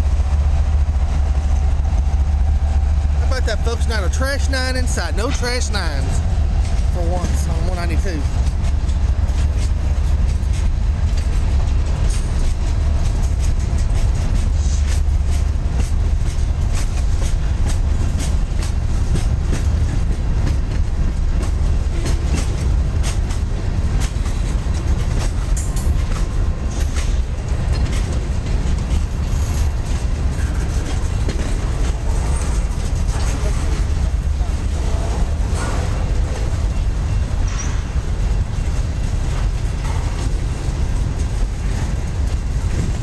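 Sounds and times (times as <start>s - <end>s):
freight train rumbling past: 0.0s - 43.0s
train wheel clicks and clanks: 0.0s - 43.0s.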